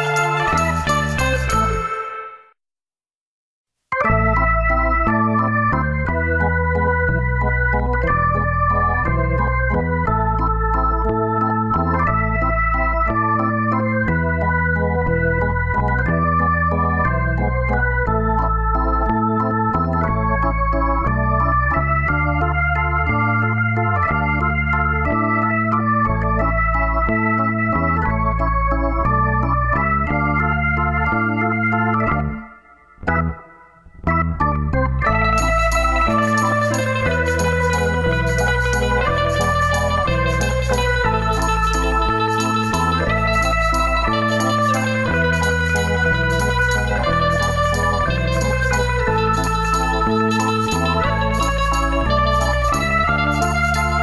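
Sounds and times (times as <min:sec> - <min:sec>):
stepping bass line: 0:00.0 - 0:01.9, 0:04.0 - 0:32.4, 0:33.0 - 0:54.0
electronic keyboard organ music: 0:00.0 - 0:02.6, 0:03.9 - 0:54.0.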